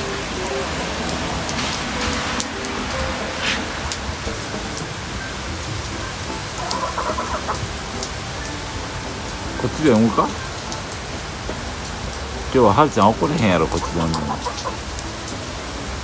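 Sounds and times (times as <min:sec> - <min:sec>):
heavy rain on concrete: 0:00.0 - 0:16.0
chickens clucking: 0:00.4 - 0:15.6.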